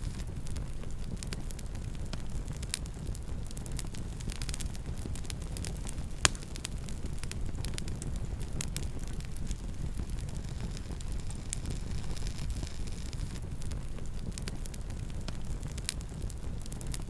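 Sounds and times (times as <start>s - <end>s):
campfire crackling: 0.0s - 17.0s
low rumble of fire: 0.0s - 17.0s.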